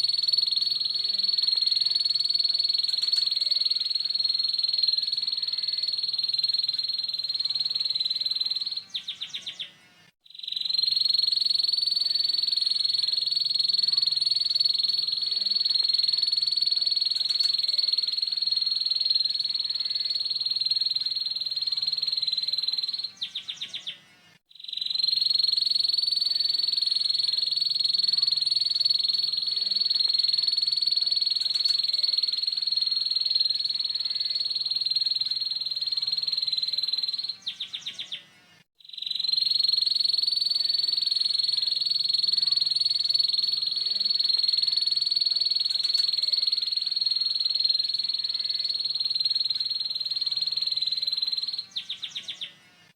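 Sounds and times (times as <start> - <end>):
canary trilling song: 0.0 - 52.7.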